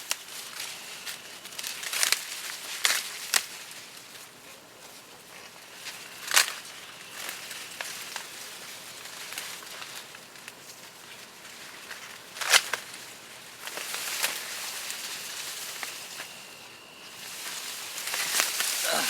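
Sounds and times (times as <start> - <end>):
corn stalks rustling and crackling: 0.0 - 19.0.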